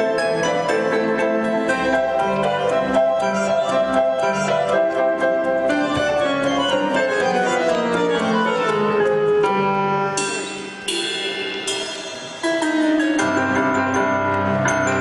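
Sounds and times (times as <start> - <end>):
piano playing lively piece: 0.0 - 15.0
recorded backing track: 0.0 - 15.0.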